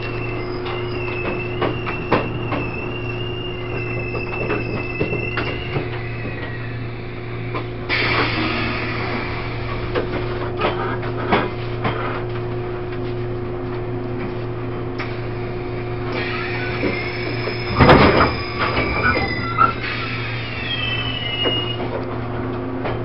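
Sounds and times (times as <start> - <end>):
low train hum: 0.0 - 23.0.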